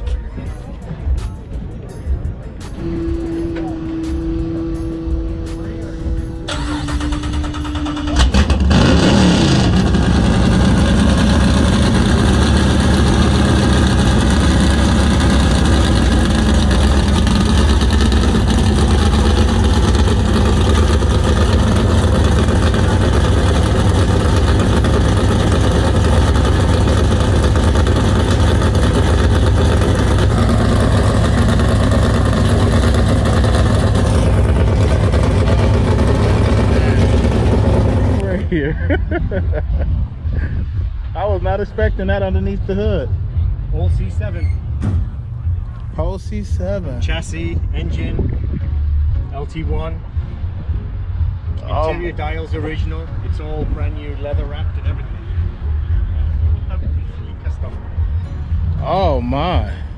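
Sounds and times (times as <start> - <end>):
car engine starting and idling: 2.1 - 47.9, 49.0 - 59.9.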